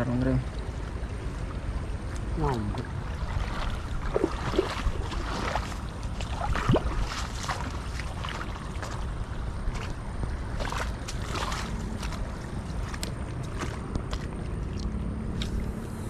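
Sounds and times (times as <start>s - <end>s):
wind rumbling on microphone: 0.0s - 16.0s
splashy footsteps on wet path: 2.0s - 15.8s.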